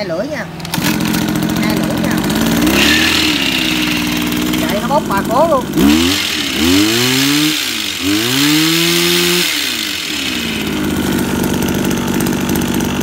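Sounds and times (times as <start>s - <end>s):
hedge trimmer engine revving: 0.4s - 13.0s.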